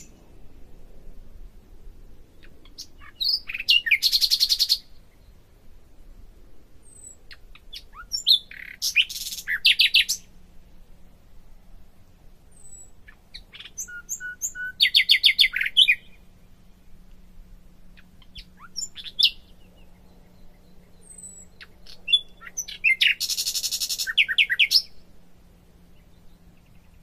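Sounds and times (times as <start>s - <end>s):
songbird chirps and trills: 0.0s - 27.0s.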